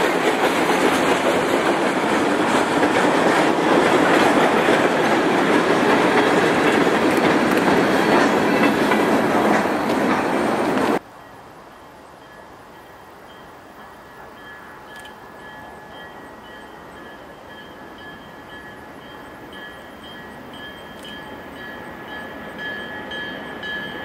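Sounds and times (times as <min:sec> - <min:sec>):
freight train wheels on rails: 0:00.0 - 0:11.3, 0:12.0 - 0:24.0.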